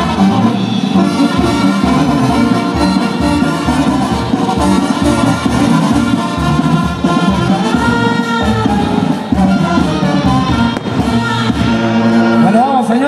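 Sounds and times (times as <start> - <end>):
latin band music with brass: 0.0 - 13.0.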